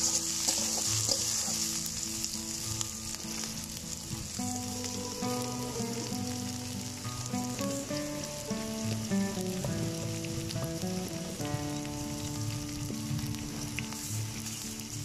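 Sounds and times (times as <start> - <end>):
background music of held notes: 0.0 - 15.0
onions sizzling in hot oil: 0.0 - 15.0.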